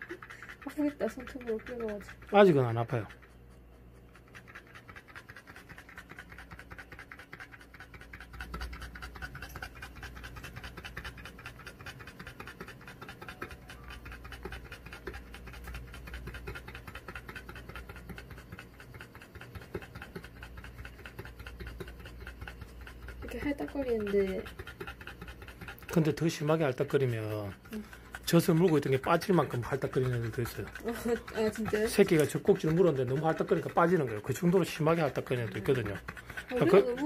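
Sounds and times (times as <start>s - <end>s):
dog panting: 0.0s - 37.0s.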